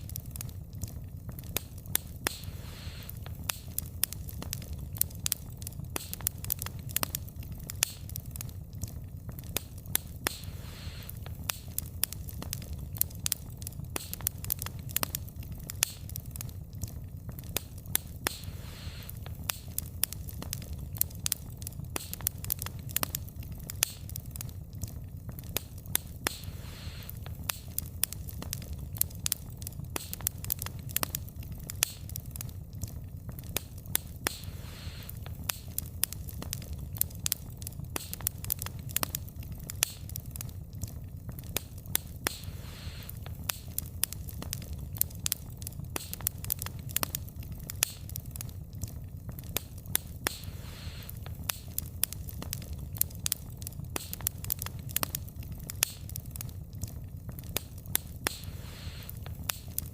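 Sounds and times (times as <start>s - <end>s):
low rumble of flames: 0.0s - 59.9s
soft hiss: 0.0s - 59.9s
wood fire crackling and popping: 0.0s - 59.9s.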